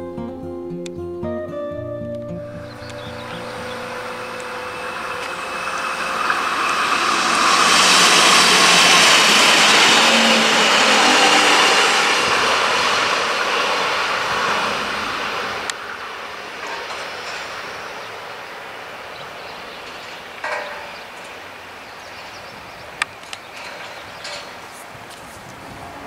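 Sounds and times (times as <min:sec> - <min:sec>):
train passing on tracks: 0:02.5 - 0:26.0.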